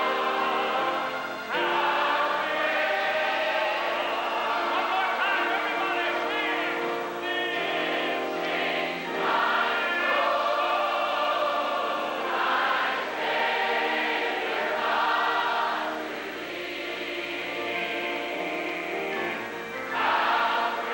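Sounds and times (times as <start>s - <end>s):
choir singing a hymn: 0.0s - 20.9s.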